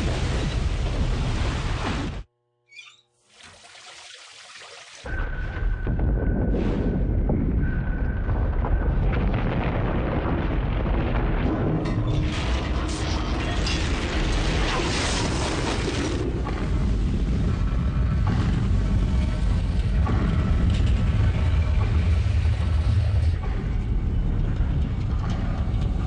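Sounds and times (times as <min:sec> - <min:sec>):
deep steady rumble: 0:05.1 - 0:26.0.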